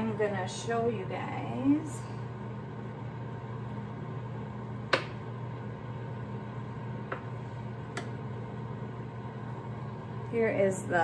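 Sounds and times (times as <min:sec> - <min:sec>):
air fryer humming: 0:00.0 - 0:11.0.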